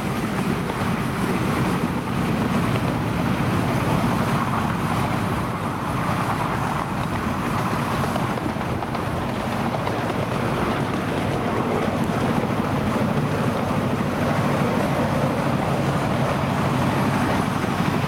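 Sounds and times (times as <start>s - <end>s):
train rumbling: 0.0s - 18.0s
wind noise on microphone: 0.0s - 18.0s.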